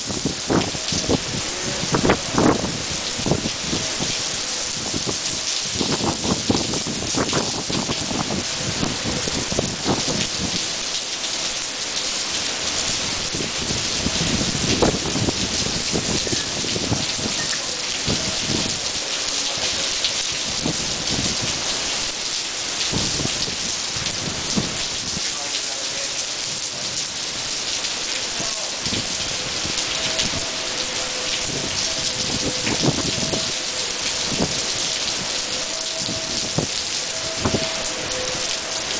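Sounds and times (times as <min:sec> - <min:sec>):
heavy rain on paving: 0:00.0 - 0:38.9.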